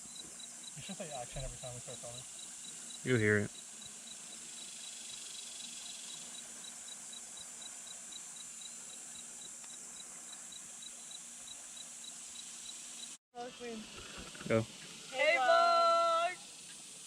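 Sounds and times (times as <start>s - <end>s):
insect chirping: 0.0s - 17.0s
insects hissing: 0.0s - 17.0s.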